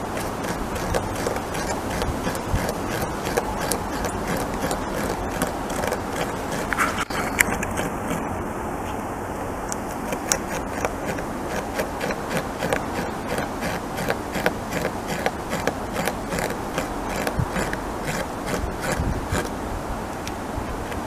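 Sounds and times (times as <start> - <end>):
beaver teeth gnawing wood: 0.0 - 8.4, 9.7 - 19.6.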